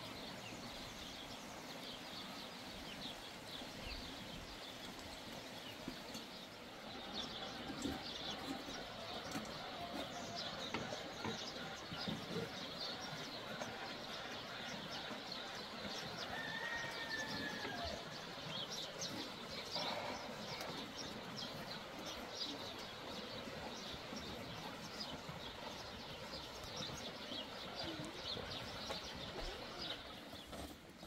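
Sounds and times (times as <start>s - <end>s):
faint outdoor background noise: 0.0s - 31.0s
small birds chirping: 0.0s - 31.0s.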